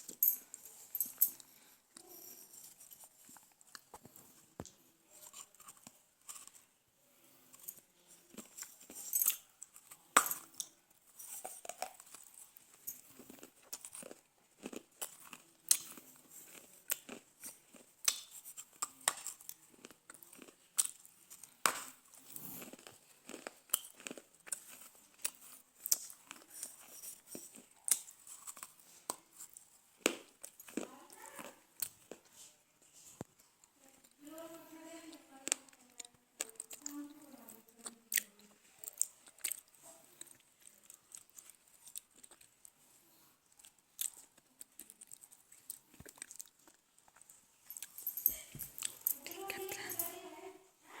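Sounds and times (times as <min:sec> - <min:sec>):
soft chewing: 0:00.0 - 0:50.1.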